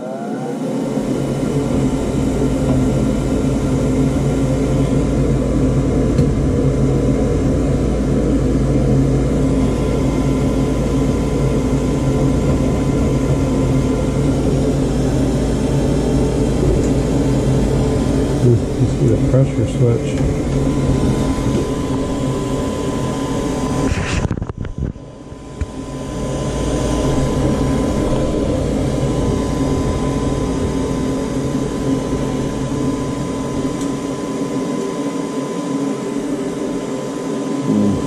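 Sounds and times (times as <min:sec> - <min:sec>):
gas furnace humming: 0:00.0 - 0:38.0.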